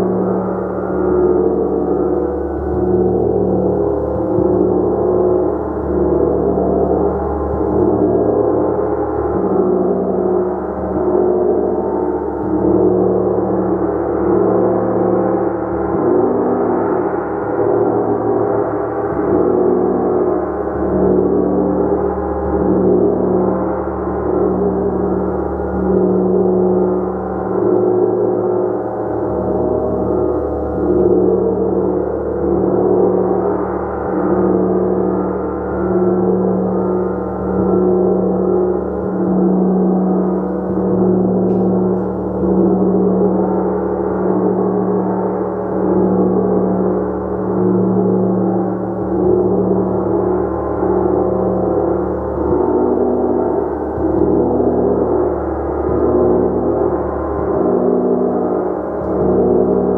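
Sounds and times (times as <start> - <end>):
large gong ringing: 0.0 - 59.9.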